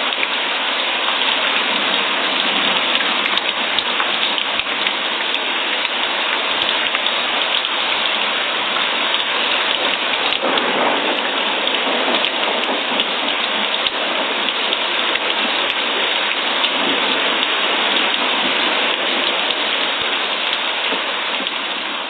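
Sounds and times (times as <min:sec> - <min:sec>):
steady rain pattering: 0:00.0 - 0:22.0.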